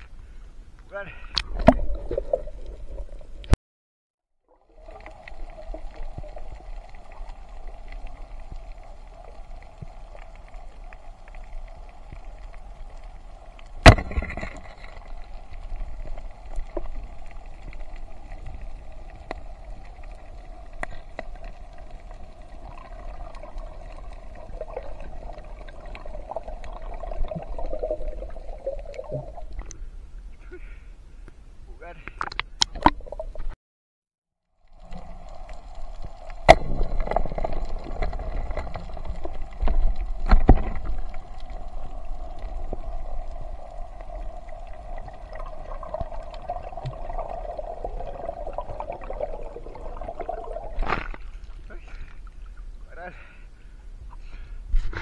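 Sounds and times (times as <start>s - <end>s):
muffled underwater hiss: 4.6s - 32.3s, 34.6s - 55.0s.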